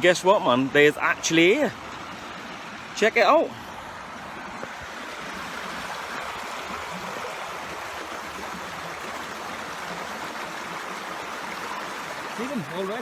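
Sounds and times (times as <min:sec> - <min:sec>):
creek water running over stones: 0:00.0 - 0:13.0.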